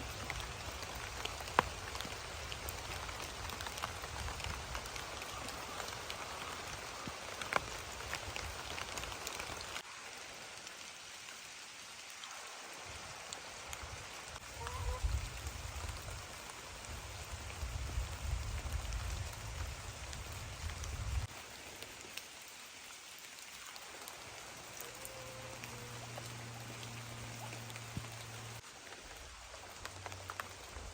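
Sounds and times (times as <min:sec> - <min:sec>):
raindrops ticking on a surface: 0:00.0 - 0:30.9
steady rain: 0:00.0 - 0:30.9.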